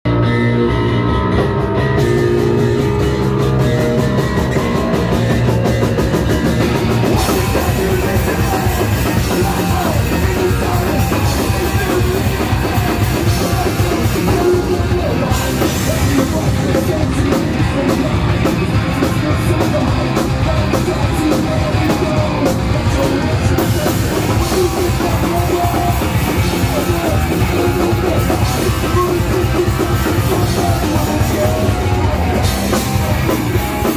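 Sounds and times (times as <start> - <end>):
bass guitar: 0.0 - 33.9
drum kit: 0.1 - 33.9
electric guitars: 0.1 - 33.9
person singing: 1.8 - 33.9.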